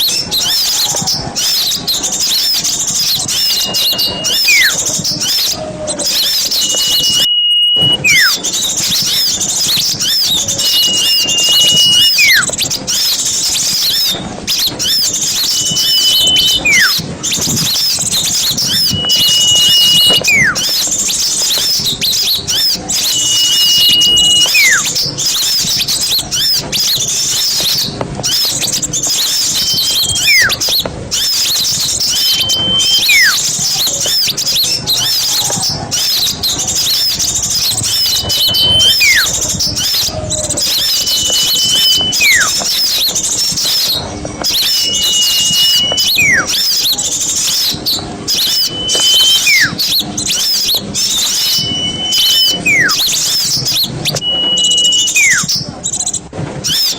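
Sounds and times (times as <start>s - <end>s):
falling whistle: 0.0s - 55.8s, 56.6s - 56.9s
small birds chirping chatter: 0.0s - 56.9s.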